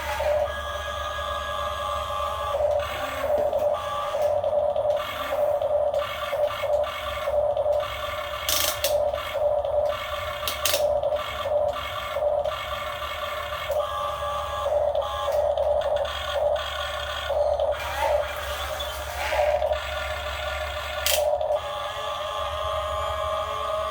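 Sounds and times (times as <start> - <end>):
electric motors whining: 0.0 - 23.9.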